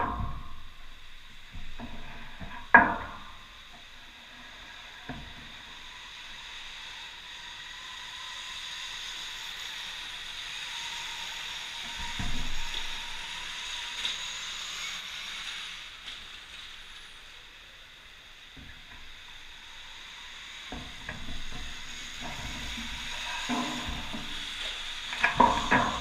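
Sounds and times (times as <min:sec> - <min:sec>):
electric dirt bike motor whine: 0:03.4 - 0:17.6, 0:18.5 - 0:26.0
tyres hissing on dirt: 0:03.4 - 0:26.0.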